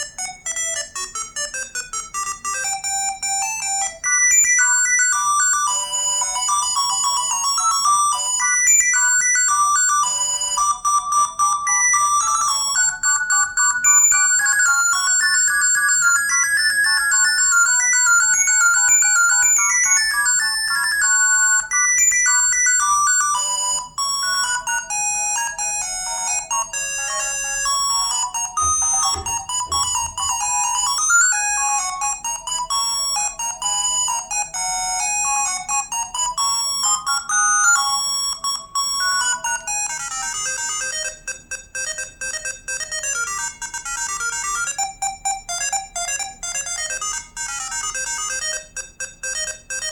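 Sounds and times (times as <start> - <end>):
mobile phone ringtone melodies: 0.0 - 49.9.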